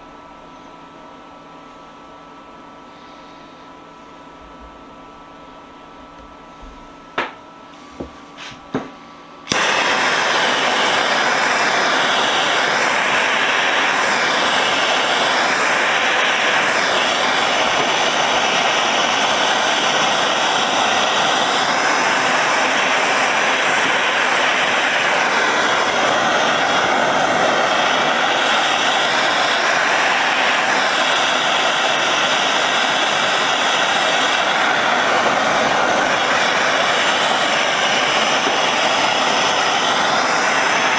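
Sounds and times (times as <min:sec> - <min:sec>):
gas torch hissing: 0:06.2 - 0:40.9.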